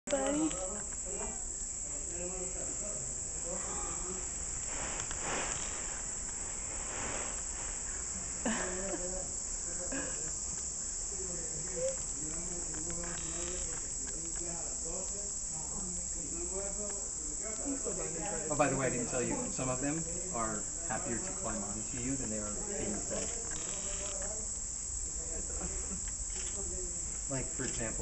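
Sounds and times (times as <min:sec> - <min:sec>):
faint voices murmuring: 0:00.1 - 0:05.9, 0:08.0 - 0:28.0
insects chorus: 0:00.1 - 0:28.0.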